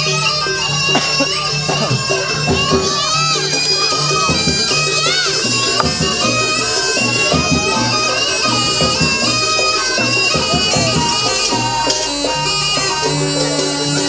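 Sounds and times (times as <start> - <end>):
reedy shawm melody: 0.0 - 14.0
steady drum beat: 0.8 - 14.0.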